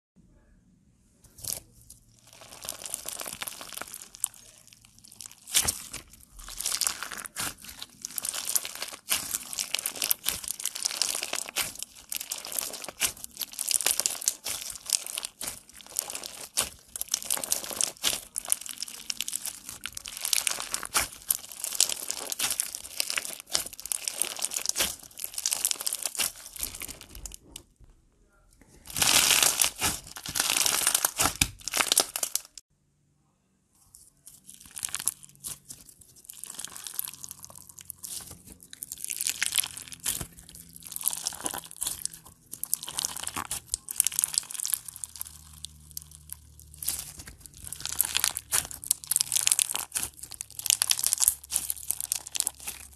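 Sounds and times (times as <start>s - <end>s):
crunchy slime with beads kneaded: 1.2s - 27.7s, 28.6s - 32.7s, 33.9s - 52.9s.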